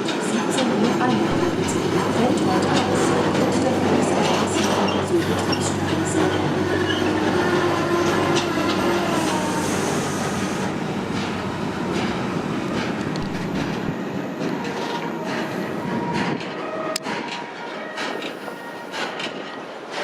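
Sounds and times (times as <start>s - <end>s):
train wheels clattering: 0.0s - 20.0s.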